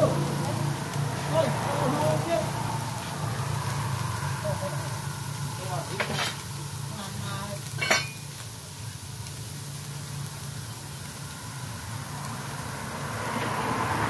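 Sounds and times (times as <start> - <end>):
food sizzling in pot: 0.0 - 14.0.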